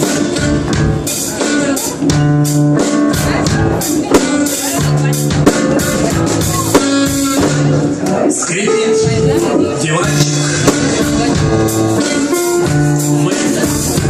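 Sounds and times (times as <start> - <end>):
drum kit beat: 0.0 - 14.0
guitar: 0.0 - 14.0.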